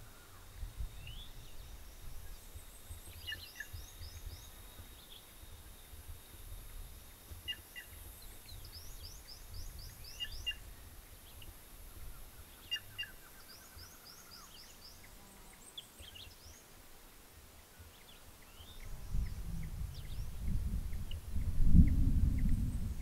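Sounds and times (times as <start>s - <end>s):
songbirds singing high sweeping notes: 0.0s - 5.9s, 6.6s - 16.8s, 17.7s - 23.0s.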